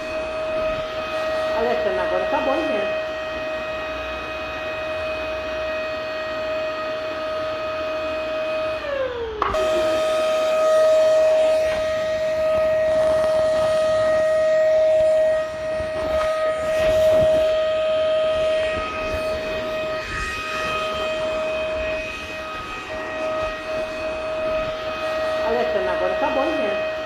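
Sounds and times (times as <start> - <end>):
vacuum cleaner motor whining: 0.0 - 27.0.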